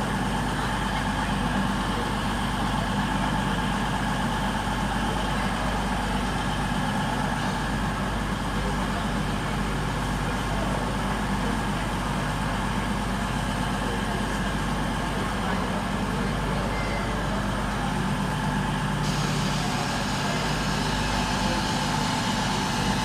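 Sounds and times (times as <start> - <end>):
diesel engines idling: 0.0 - 23.0.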